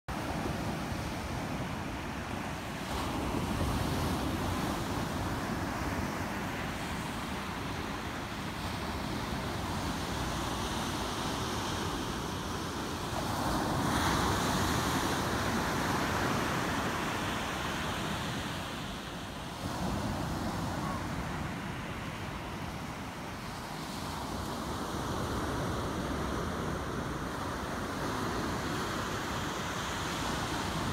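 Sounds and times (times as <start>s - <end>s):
ocean surf breaking on sand: 0.1s - 30.9s.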